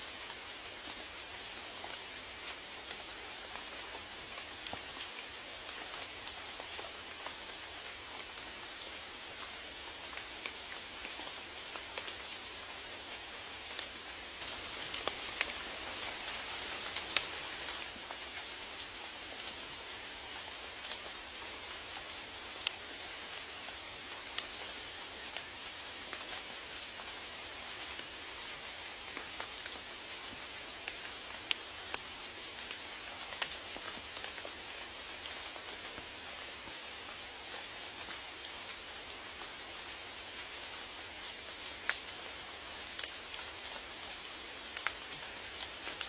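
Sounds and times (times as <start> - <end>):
rain falling hiss: 0.0 - 46.0
raindrops ticking on a surface: 0.0 - 46.0.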